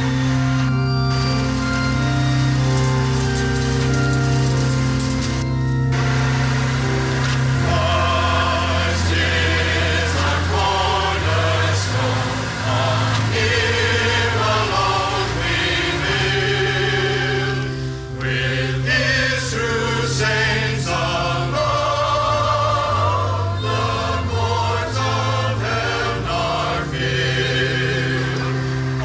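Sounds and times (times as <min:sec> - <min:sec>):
choir singing sacred music: 0:00.0 - 0:29.0.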